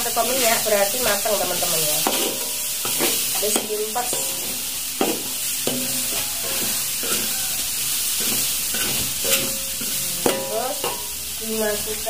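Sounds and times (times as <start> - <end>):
spice paste sizzling in oil: 0.0 - 12.0
metal spatula scraping a wok: 0.1 - 12.0.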